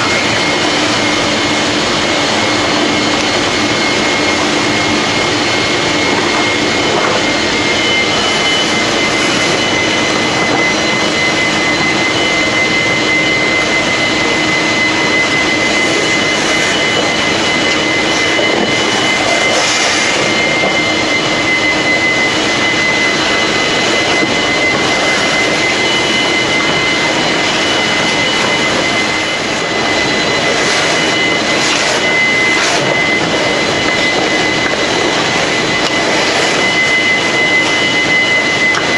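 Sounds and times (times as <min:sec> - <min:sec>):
vacuum cleaner whine and air rush: 0:00.0 - 0:38.9.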